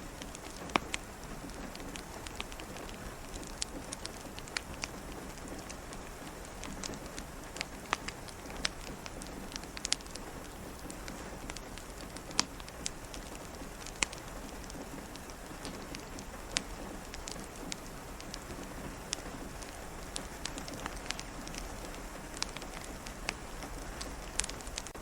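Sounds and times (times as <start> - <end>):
rain on a window: 0.0 - 25.0
wood fire crackling: 0.0 - 25.0.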